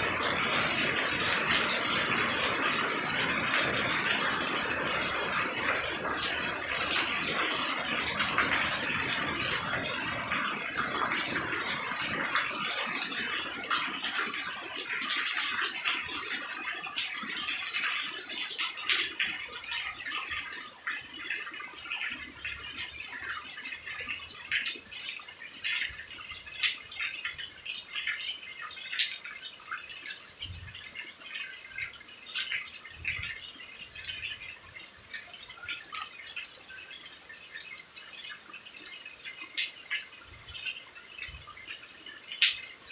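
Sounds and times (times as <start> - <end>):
rain hiss: 0.0 - 42.9
water drips and splats: 0.0 - 42.9.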